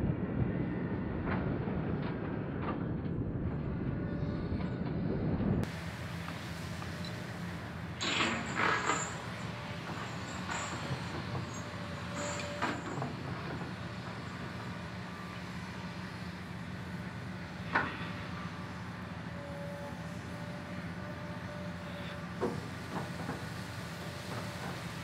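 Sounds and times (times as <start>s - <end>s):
low diesel drone of machines: 0.0s - 25.0s.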